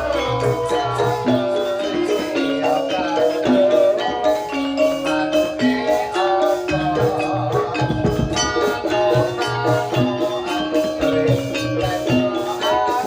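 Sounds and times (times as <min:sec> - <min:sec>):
drums: 0:00.0 - 0:13.0
metal mallet instruments melody: 0:00.0 - 0:13.0.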